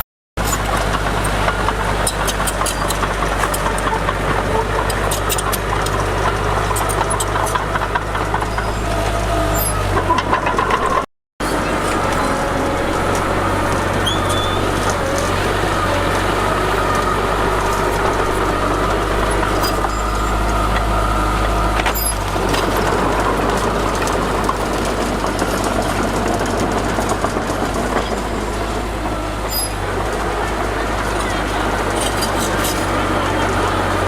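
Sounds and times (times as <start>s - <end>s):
heavy diesel engine droning: 0.0s - 34.0s.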